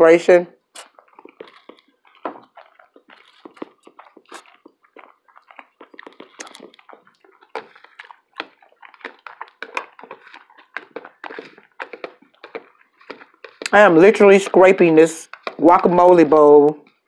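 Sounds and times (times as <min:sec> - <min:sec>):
chewing with wet mouth smacks: 0:00.7 - 0:17.0.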